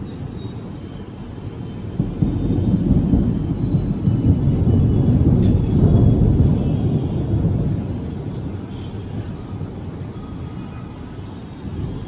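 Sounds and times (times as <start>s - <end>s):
rolling thunder: 1.8s - 12.0s.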